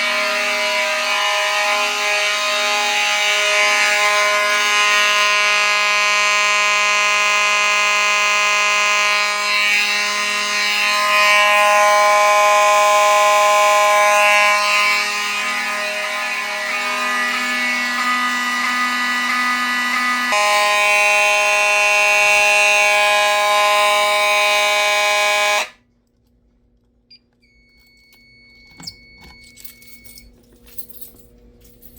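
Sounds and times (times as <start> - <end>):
fire alarm horns steady tone: 0.0 - 25.8.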